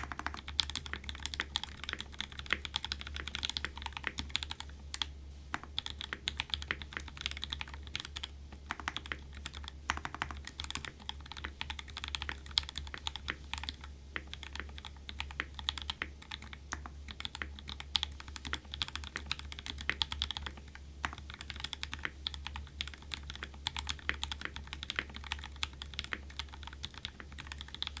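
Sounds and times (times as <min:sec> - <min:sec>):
typing on mechanical keyboard: 0:00.0 - 0:28.0.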